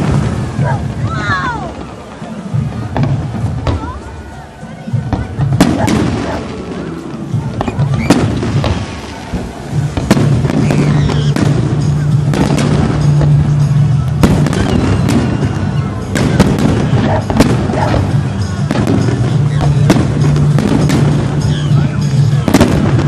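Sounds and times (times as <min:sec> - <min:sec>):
background music: 0:00.0 - 0:23.0
fireworks bangs and crackles: 0:00.0 - 0:23.0.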